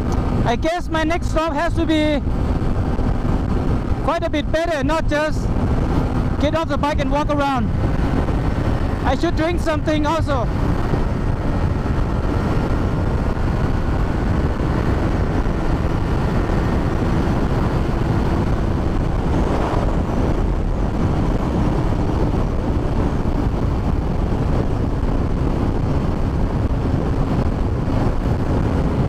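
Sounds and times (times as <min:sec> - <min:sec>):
motorcycle engine cruising: 0:00.0 - 0:29.0
wind rush on microphone: 0:00.0 - 0:29.0.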